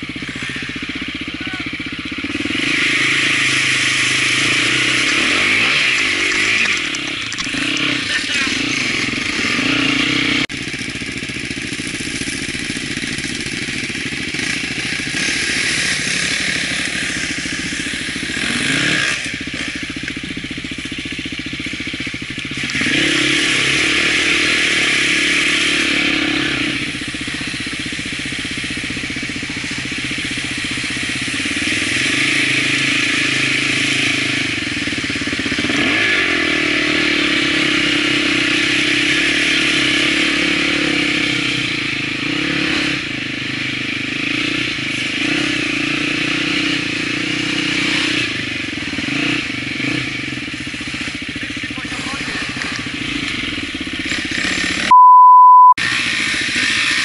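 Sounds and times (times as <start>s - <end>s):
dirt bike engine revving: 0.0s - 55.0s, 55.8s - 57.0s.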